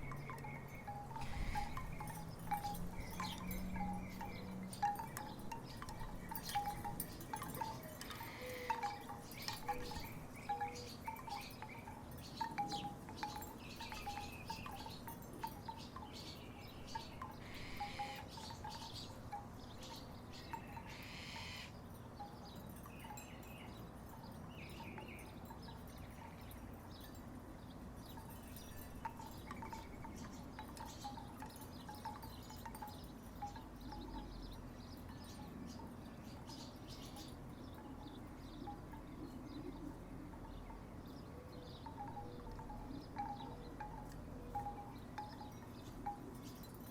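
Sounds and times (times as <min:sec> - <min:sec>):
wooden wind chimes clacking: 0:00.0 - 0:46.9.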